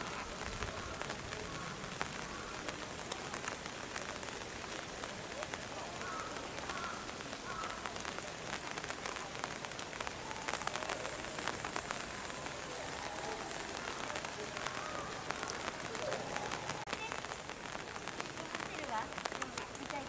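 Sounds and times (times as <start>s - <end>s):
rain falling on leaves: 0.0s - 20.0s.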